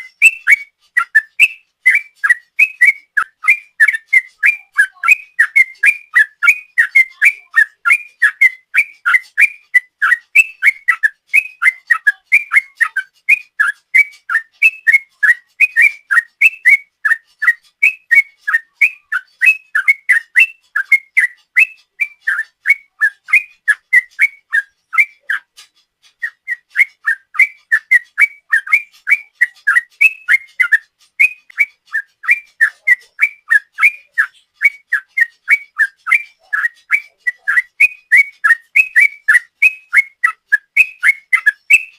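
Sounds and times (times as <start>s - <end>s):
bird singing whistled notes: 0.0s - 41.9s.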